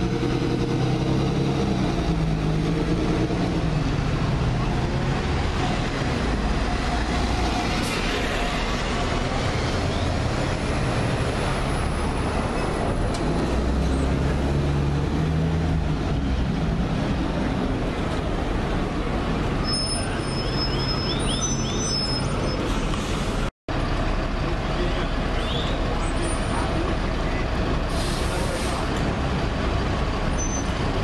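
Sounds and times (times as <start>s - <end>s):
diesel buses passing: 0.0s - 31.0s
street traffic noise: 0.0s - 31.0s.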